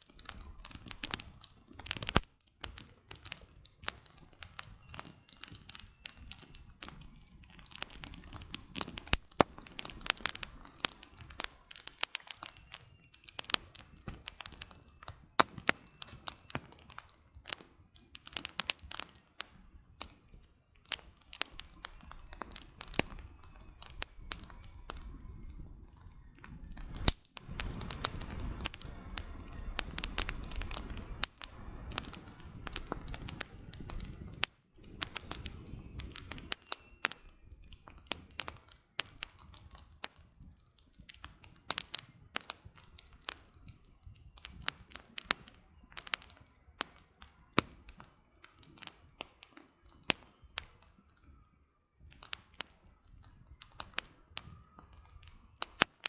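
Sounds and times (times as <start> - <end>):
campfire crackling and popping: 0.0 - 56.0
low rushing of flames: 0.0 - 56.0.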